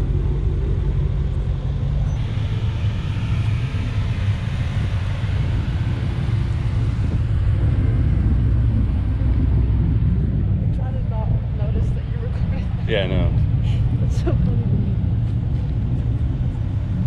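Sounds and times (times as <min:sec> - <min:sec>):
sports car engines rumbling: 0:00.0 - 0:17.0
tyre and exhaust noise: 0:00.0 - 0:17.0.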